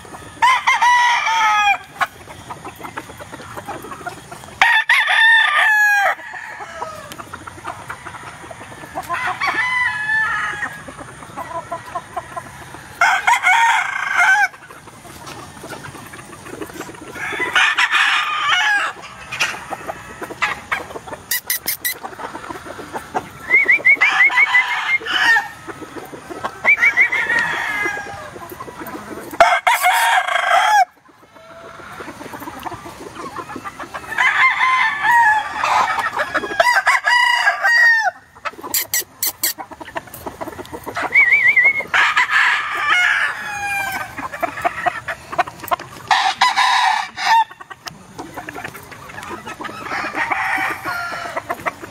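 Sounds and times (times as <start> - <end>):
chickens clucking: 0.0 - 51.9
roosters crowing: 0.0 - 51.9.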